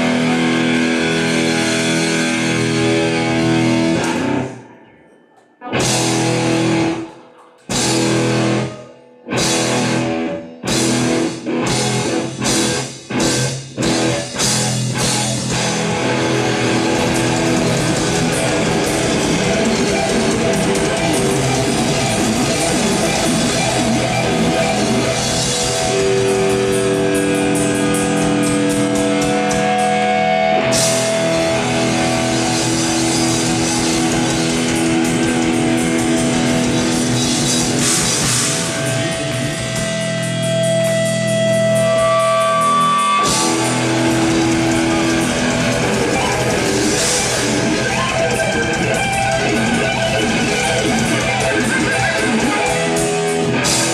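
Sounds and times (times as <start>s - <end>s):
rock band playing live: 0.0s - 4.8s, 5.7s - 53.9s.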